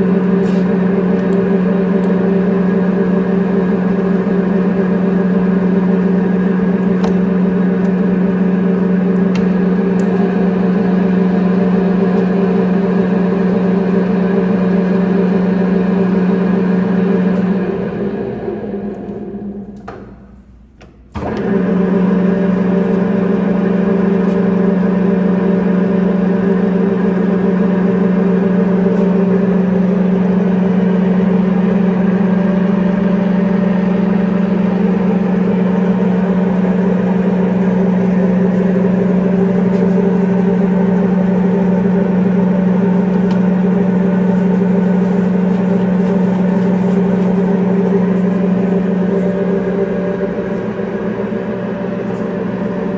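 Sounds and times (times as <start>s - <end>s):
lathe motor humming: 0.0s - 20.0s, 21.1s - 52.9s.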